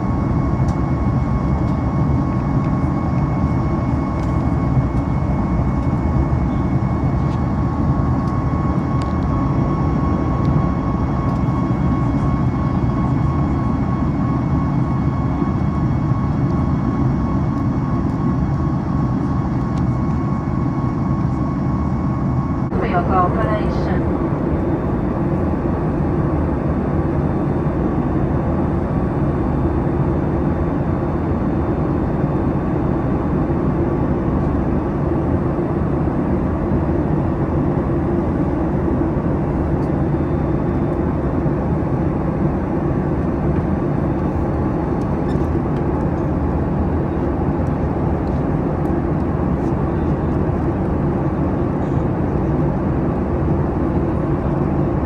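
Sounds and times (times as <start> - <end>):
airplane engine hum: 0.0 - 55.0.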